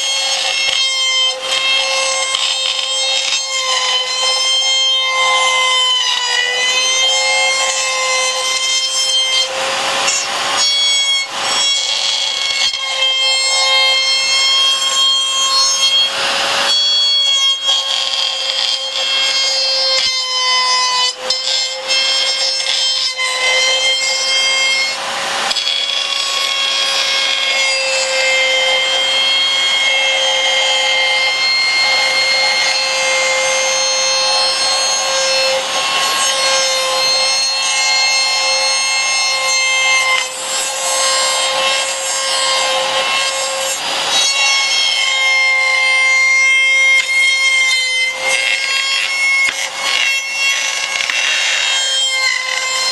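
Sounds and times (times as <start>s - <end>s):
router bit cutting: 0.0s - 52.9s
router high whine: 0.0s - 52.9s.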